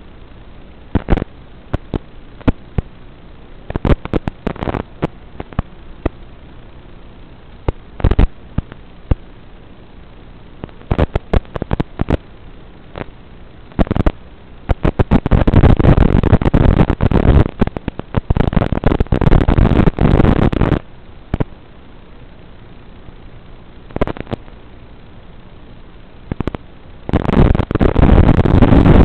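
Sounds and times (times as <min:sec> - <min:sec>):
crackling radio static: 0:00.0 - 0:29.0
low steady hiss: 0:00.0 - 0:29.0.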